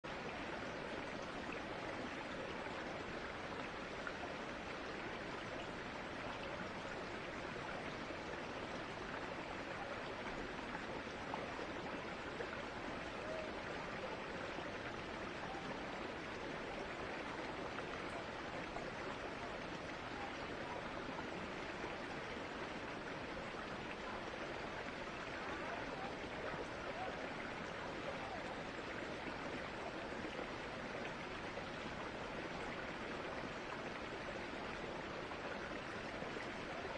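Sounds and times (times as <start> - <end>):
woodland stream rushing: 0.0 - 36.9.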